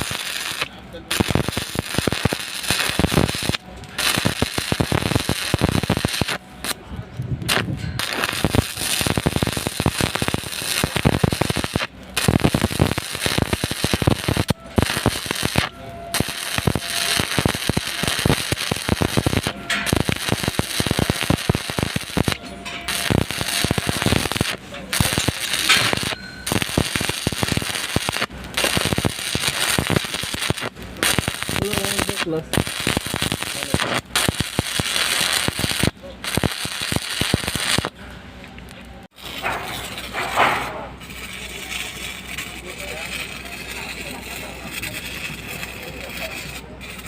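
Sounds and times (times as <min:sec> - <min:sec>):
welding arc crackling: 0:00.0 - 0:38.0, 0:38.6 - 0:47.0.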